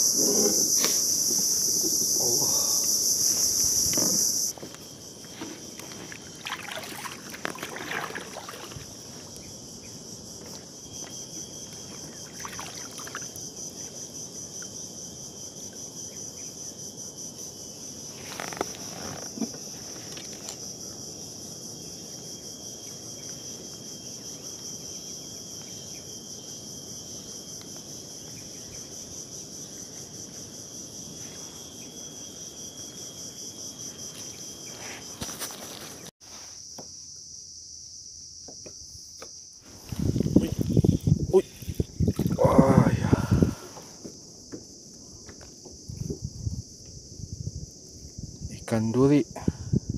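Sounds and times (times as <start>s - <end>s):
insect thin whine: 0.0s - 49.9s
insects pulsing buzz: 0.0s - 49.9s.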